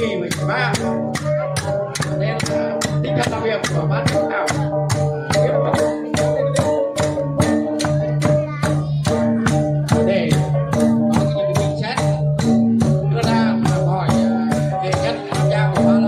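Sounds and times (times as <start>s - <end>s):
gong ensemble playing: 0.0s - 16.0s.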